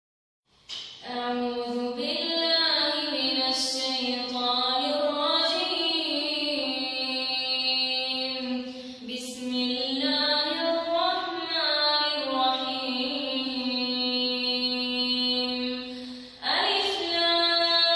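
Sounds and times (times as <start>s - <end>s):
girl chanting melodically: 1.0s - 17.9s.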